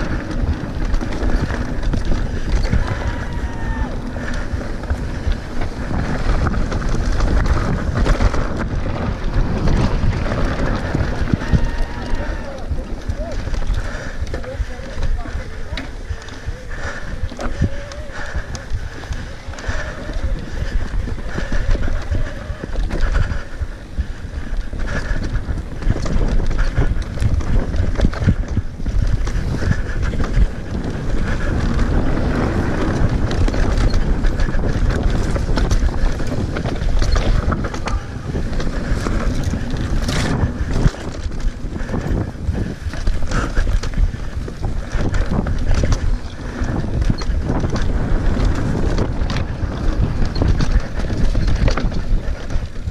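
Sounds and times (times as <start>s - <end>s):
bike rattling over bumps: 0.0s - 52.9s
tyre rumble on dirt trail: 0.0s - 52.9s
wind buffeting microphone: 0.0s - 52.9s.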